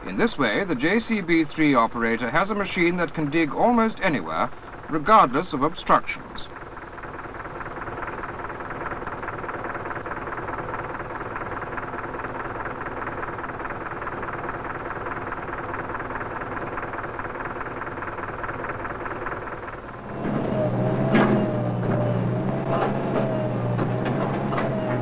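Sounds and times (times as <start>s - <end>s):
backhoe engine running: 0.0s - 25.0s.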